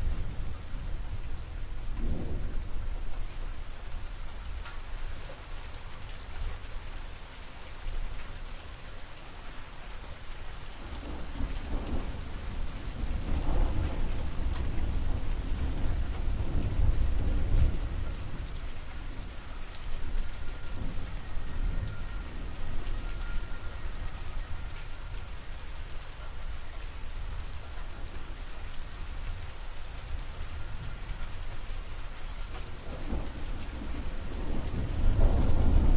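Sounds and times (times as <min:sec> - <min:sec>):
rolling thunder: 0:00.0 - 0:04.1, 0:10.8 - 0:35.9
steady rain: 0:00.0 - 0:35.9.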